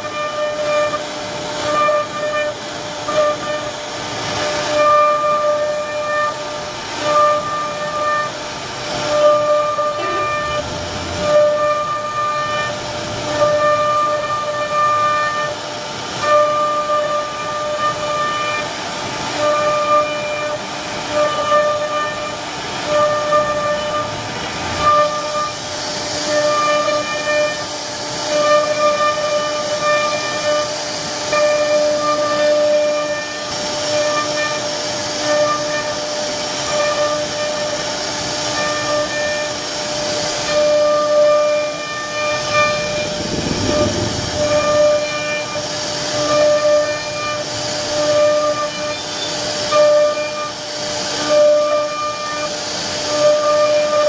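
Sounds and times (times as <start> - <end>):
router spindle whining: 0.0 - 54.0.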